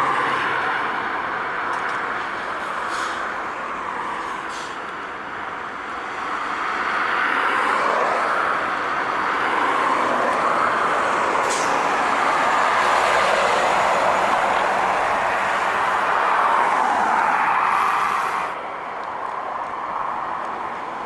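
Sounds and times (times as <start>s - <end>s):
trucks passing on highway: 0.0s - 21.0s.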